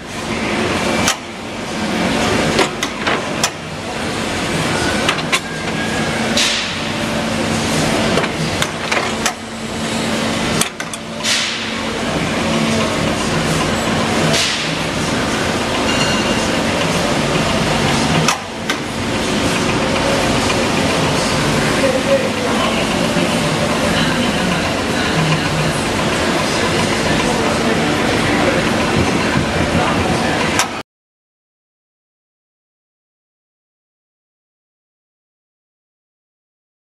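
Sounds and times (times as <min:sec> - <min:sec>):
machine hum with low tone: 0:00.0 - 0:30.8.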